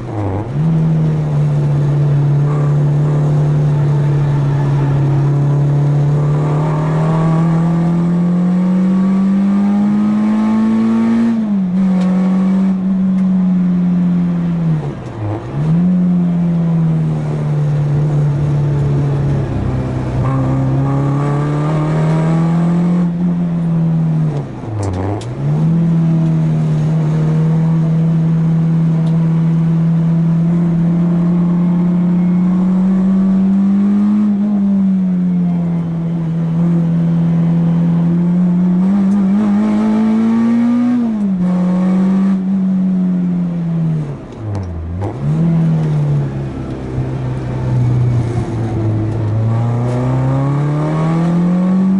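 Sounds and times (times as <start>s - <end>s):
car engine driven hard: 0.0s - 51.9s.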